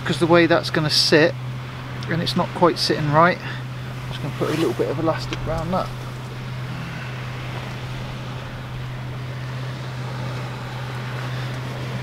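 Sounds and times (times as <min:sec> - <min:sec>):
steady low drone: 0:01.2 - 0:12.0.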